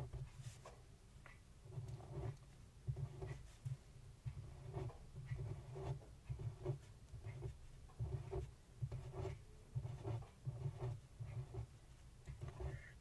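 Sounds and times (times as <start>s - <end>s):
pen scratching on paper: 1.6s - 13.0s.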